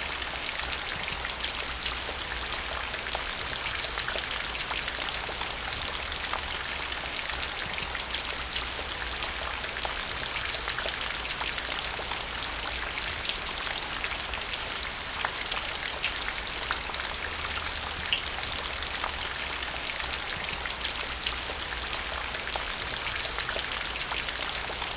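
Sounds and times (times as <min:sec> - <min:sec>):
rain falling into puddle: 0:00.0 - 0:24.9.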